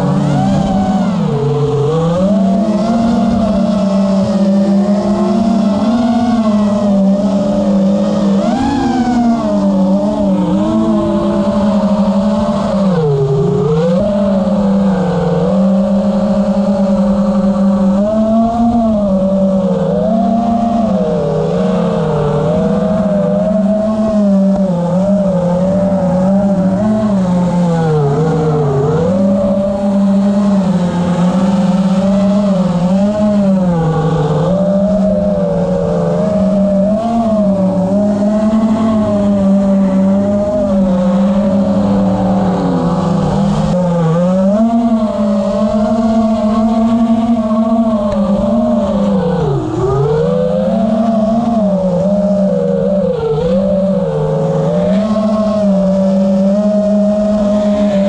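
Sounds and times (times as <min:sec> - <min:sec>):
quadcopter motors whining: 0:00.0 - 0:58.0.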